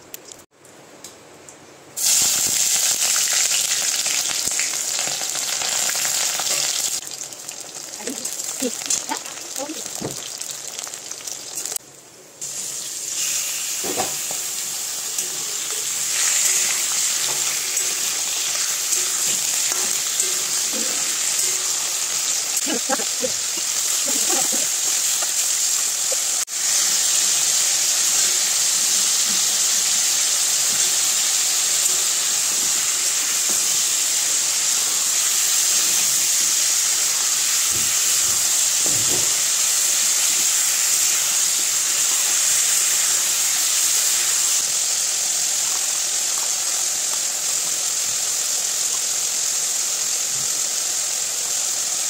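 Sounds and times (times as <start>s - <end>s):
chicken sizzling in hot oil: 2.0s - 11.8s, 12.4s - 52.0s.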